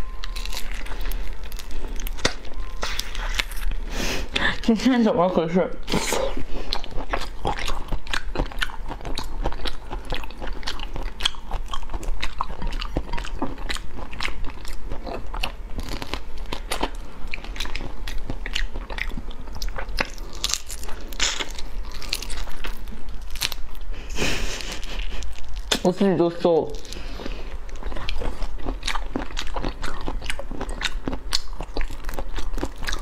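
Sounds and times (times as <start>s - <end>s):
person chewing crunchy shrimp: 0.0s - 4.7s, 5.8s - 25.9s, 26.6s - 33.0s.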